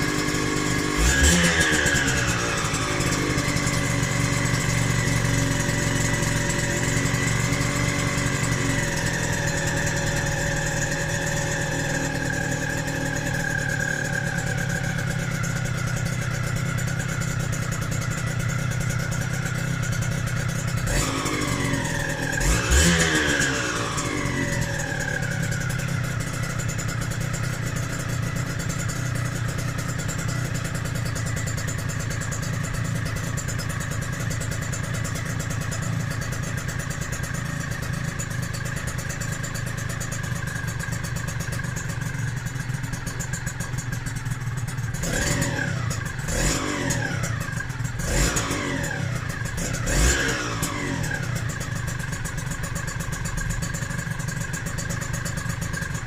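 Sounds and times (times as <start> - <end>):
two-stroke engine idling: 0.0 - 56.0.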